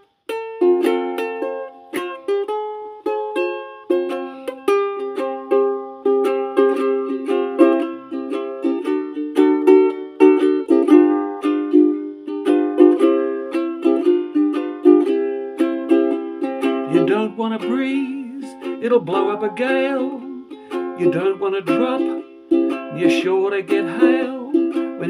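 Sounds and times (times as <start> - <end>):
plucked string instrument strummed: 0.0 - 25.0.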